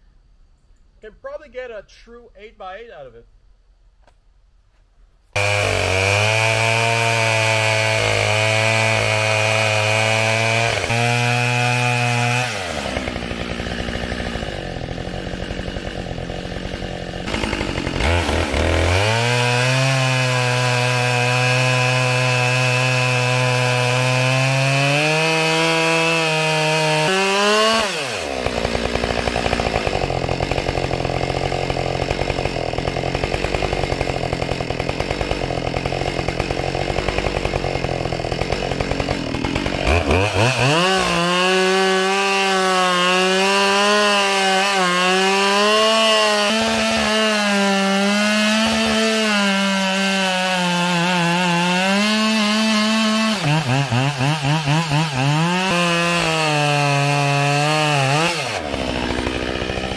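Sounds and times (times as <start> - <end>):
chainsaw cutting log: 5.3 - 59.9.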